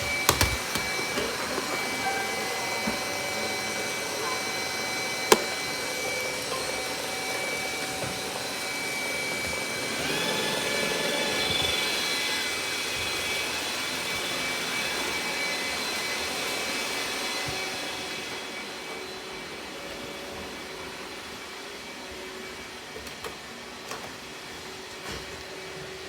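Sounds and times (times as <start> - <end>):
robot vacuum cleaner whirring: 0.0 - 26.0.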